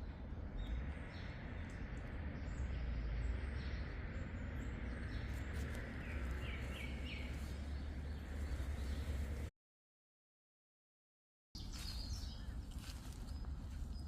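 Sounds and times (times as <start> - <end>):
small songbirds chirping: 0.0 - 9.5, 11.6 - 14.0.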